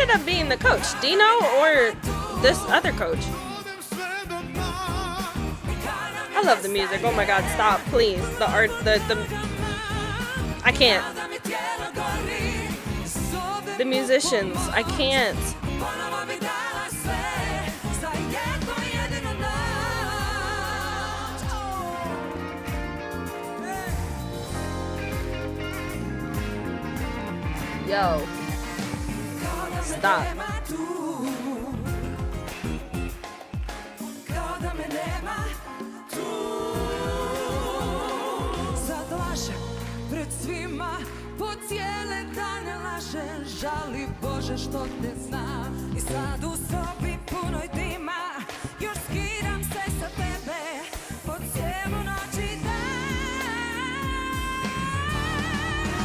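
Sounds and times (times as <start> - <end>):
steady bass line: 0.0 - 1.2, 1.9 - 3.6, 4.3 - 6.1, 6.7 - 11.1, 11.8 - 13.6, 14.3 - 16.1, 16.8 - 30.3, 31.7 - 33.2, 36.8 - 48.0, 48.8 - 50.4, 51.2 - 56.0
person singing with vibrato: 0.0 - 26.0, 27.4 - 32.8, 34.0 - 56.0
live band playing: 0.0 - 56.0.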